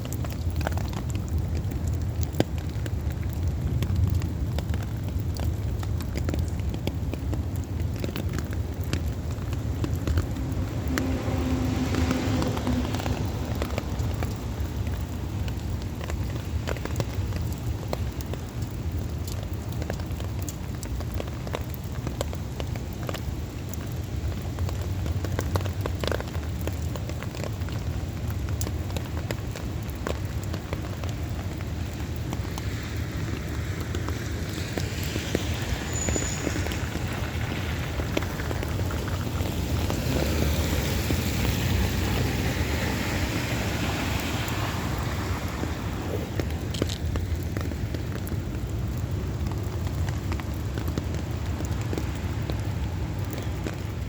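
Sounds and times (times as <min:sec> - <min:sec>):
heavy rain: 0:00.0 - 0:54.0
raindrops ticking on a surface: 0:00.0 - 0:54.0.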